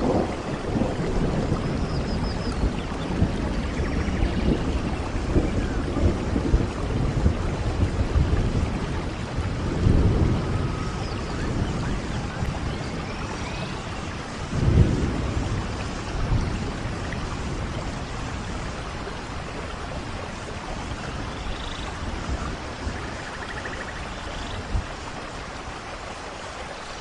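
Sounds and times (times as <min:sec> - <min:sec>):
low rolls of thunder: 0:00.0 - 0:26.1
steady rain: 0:00.0 - 0:27.0.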